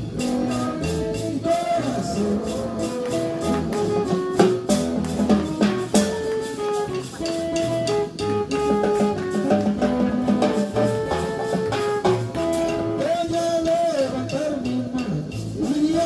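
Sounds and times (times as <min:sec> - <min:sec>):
held pitched notes: 0:00.0 - 0:14.0
drum kit: 0:00.0 - 0:16.0
guitar: 0:00.0 - 0:16.0
worship band playing: 0:00.0 - 0:16.0.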